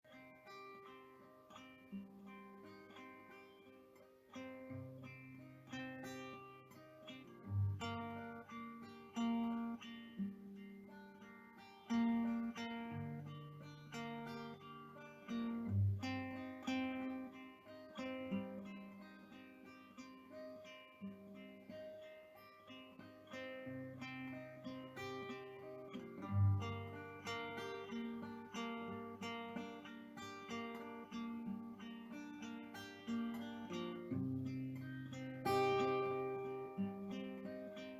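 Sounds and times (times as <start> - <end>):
acoustic guitar plucking: 0.1 - 37.9.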